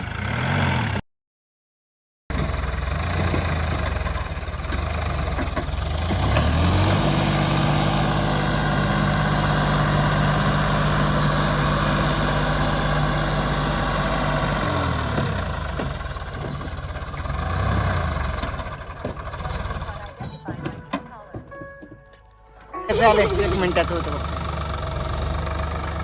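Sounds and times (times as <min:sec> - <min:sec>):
diesel engine idling and revving: 0:00.0 - 0:01.0, 0:02.3 - 0:20.8, 0:22.9 - 0:26.0.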